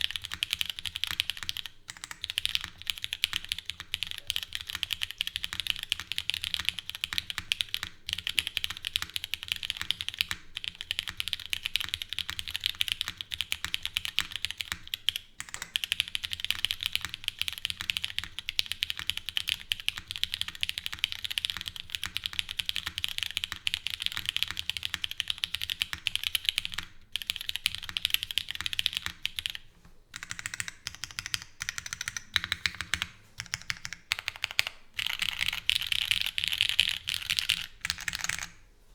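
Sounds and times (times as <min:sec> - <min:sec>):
fast typing on mechanical keyboard: 0:00.0 - 0:29.6, 0:30.2 - 0:38.6.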